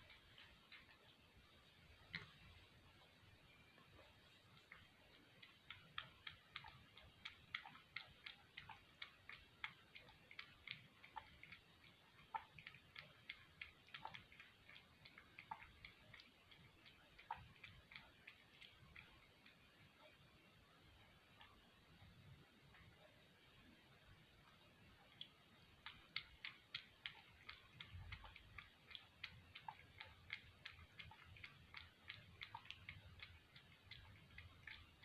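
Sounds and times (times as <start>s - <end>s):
cat lapping milk: 0.0s - 35.0s.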